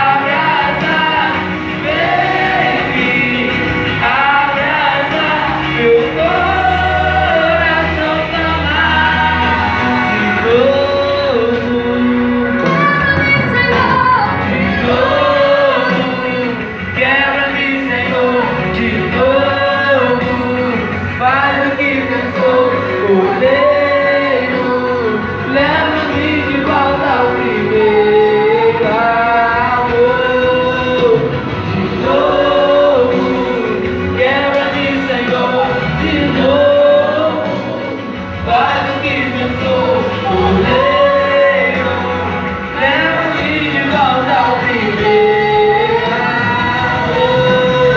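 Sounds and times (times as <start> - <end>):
group singing gospel song: 0.0 - 47.9.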